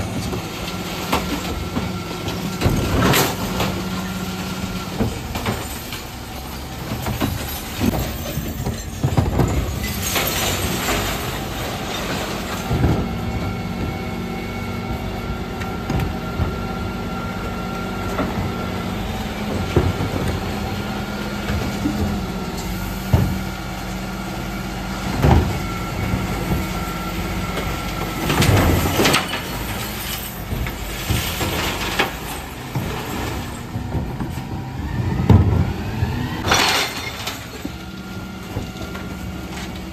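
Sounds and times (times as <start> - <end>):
bins clattering and banging: 0.0 - 39.9
refuse truck engine whine: 0.0 - 39.9.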